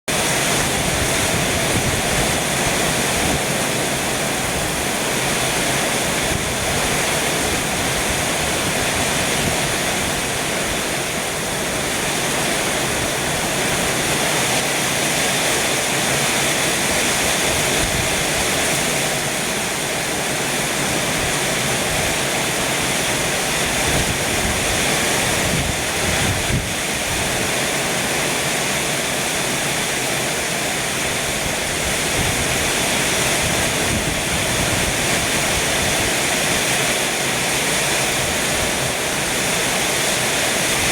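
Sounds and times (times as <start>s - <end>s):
heavy rain pouring: 0.1s - 40.9s
strong wind: 0.1s - 40.9s.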